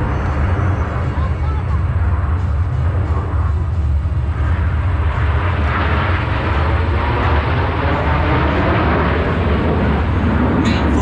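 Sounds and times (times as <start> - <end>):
jet aircraft roar: 0.0 - 11.0.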